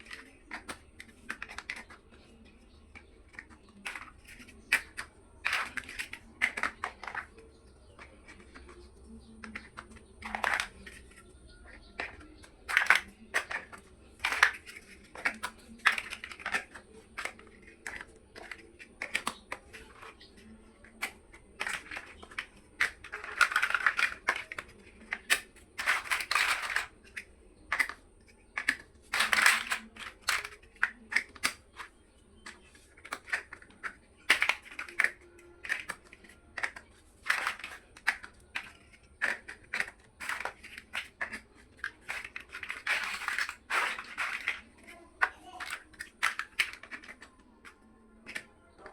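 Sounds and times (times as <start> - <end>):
plastic blocks clicking: 0.0 - 48.9
plastic pieces rustling and scraping: 0.0 - 48.9.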